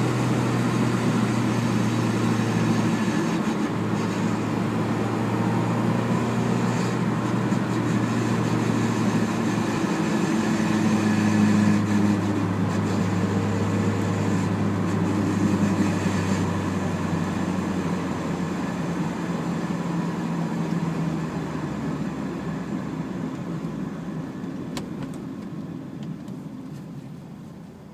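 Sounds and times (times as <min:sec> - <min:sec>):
car drivetrain whine decelerating: 0:00.0 - 0:27.9.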